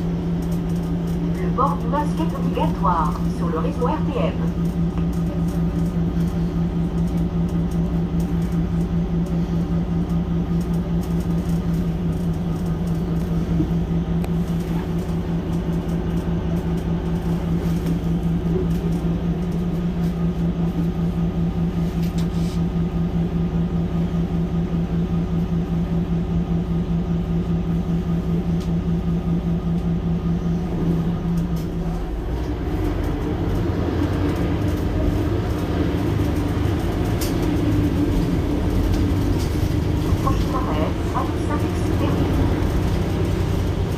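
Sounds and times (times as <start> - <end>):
bus engine drone: 0.0 - 43.9.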